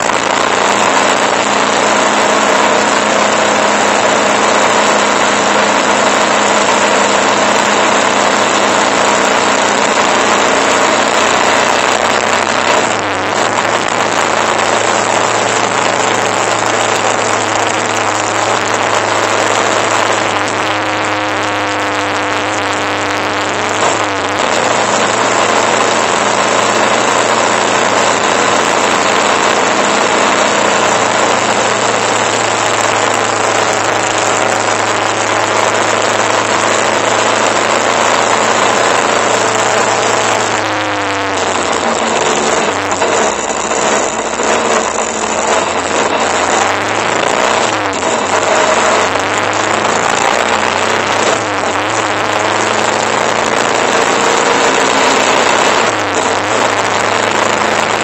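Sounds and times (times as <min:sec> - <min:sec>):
motorcycle engine running: 0:00.0 - 0:58.0
road noise: 0:00.0 - 0:58.0.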